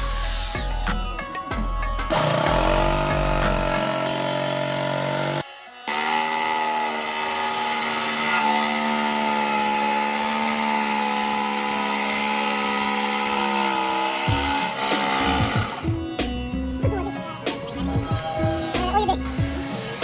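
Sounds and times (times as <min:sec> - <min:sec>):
power tool motor running: 0:02.1 - 0:16.4, 0:17.7 - 0:20.0.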